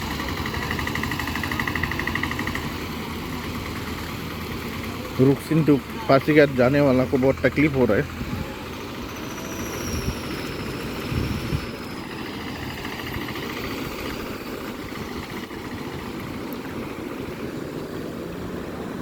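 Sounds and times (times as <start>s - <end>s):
floodwater rushing over road: 0.0s - 19.0s
vehicle engine running: 0.0s - 19.0s.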